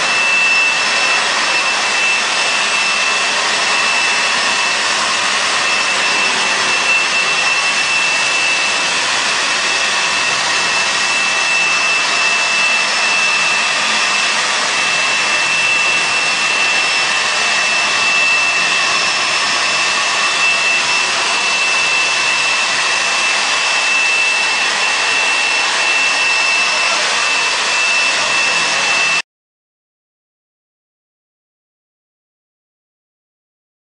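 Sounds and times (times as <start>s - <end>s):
washing machine rushing and whining: 0.0s - 29.2s.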